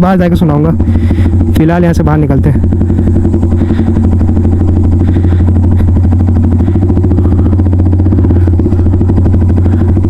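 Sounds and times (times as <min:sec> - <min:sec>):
motorcycle engine running loudly: 0:00.0 - 0:10.0.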